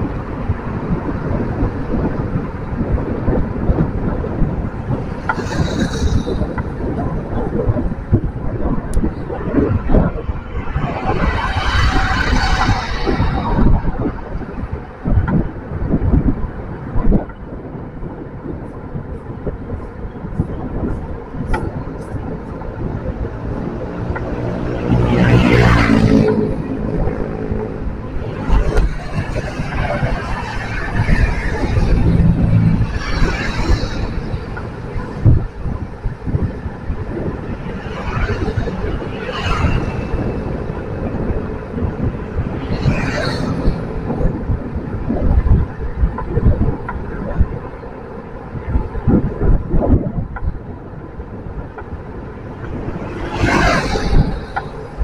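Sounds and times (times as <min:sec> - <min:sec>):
road and traffic noise: 0:00.0 - 0:55.0
wind buffeting microphone: 0:00.0 - 0:55.0.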